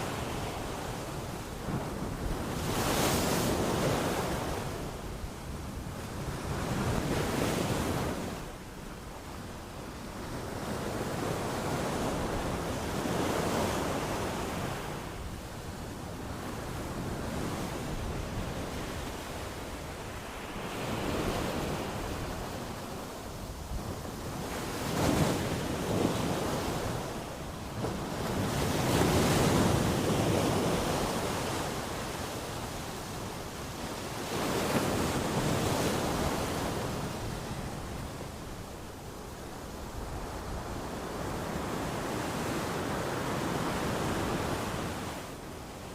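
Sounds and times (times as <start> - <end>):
sea waves surging and washing back: 0.0 - 45.9.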